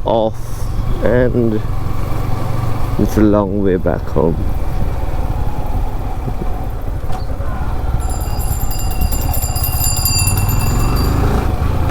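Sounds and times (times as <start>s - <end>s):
motorcycle engine rumble: 0.9s - 11.9s.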